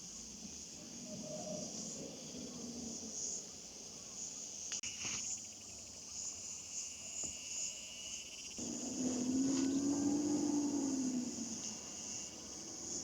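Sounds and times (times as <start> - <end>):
insects chirring: 0.4 - 13.0.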